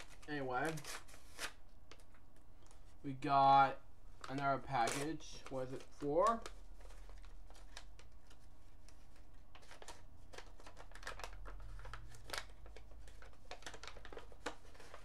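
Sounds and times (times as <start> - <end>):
paper envelope crinkling and tearing: 0.0 - 2.8, 4.2 - 15.0.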